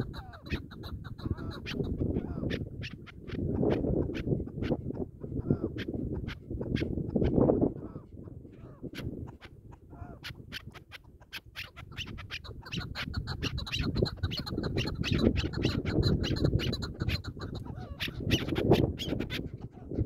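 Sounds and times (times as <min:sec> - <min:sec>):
partridges clucking calls: 0:00.0 - 0:20.0.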